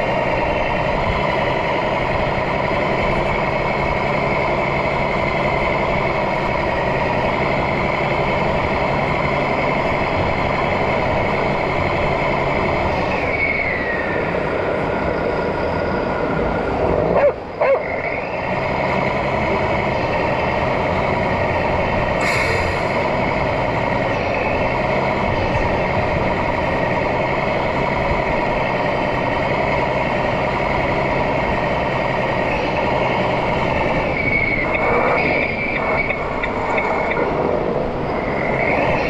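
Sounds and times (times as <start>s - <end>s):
simulated diesel engine running: 0.0s - 39.0s.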